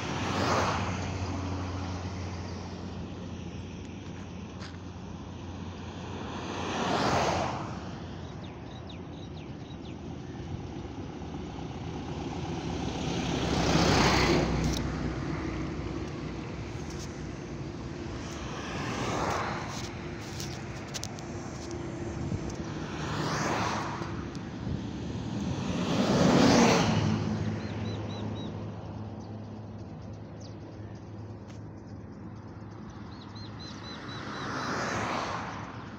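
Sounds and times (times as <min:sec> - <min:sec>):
low traffic hum: 0:00.0 - 0:35.9
vehicles passing close by: 0:00.0 - 0:35.9.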